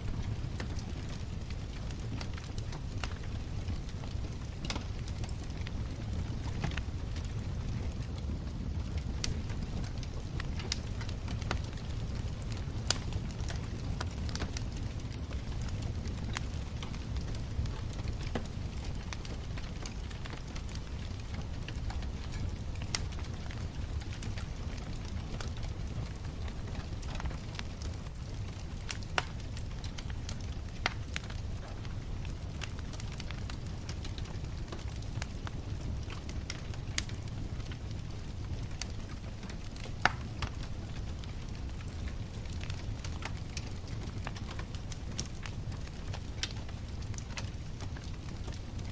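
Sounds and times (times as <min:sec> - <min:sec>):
steady low rumble: 0:00.0 - 0:43.4
bonfire crackling and popping: 0:00.0 - 0:48.9.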